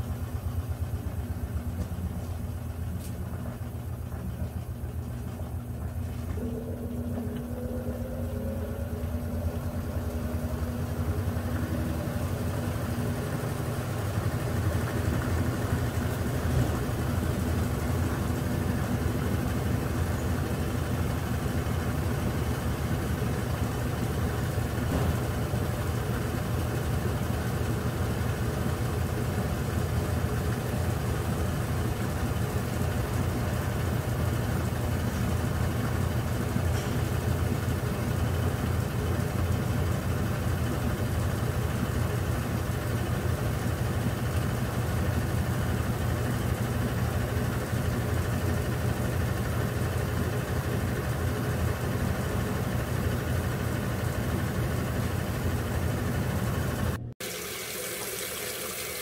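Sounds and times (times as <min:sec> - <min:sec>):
washing machine spin hum: 0:00.0 - 0:59.0.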